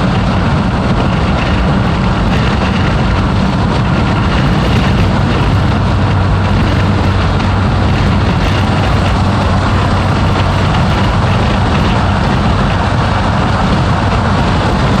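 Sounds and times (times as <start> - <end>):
car engine drone: 0.0 - 15.0
road noise: 0.0 - 15.0
wind noise: 0.0 - 15.0.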